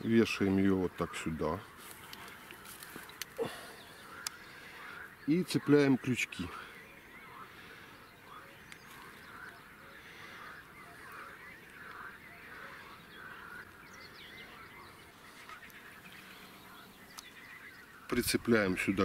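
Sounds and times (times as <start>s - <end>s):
faint animal calls: 1.0s - 19.0s.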